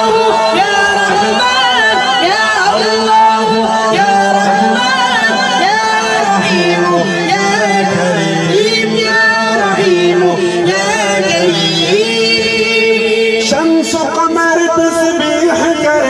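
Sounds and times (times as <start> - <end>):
person singing ornamented melody: 0.0 - 16.0.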